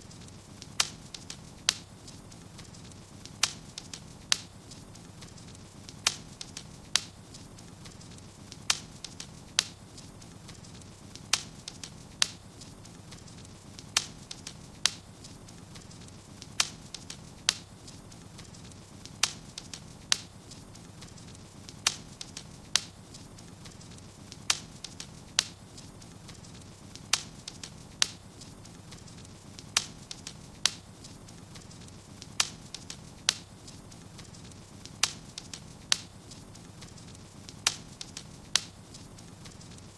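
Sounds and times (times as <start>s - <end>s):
faint low hiss: 0.0s - 39.9s
wood fire pops and cracks: 0.0s - 39.9s.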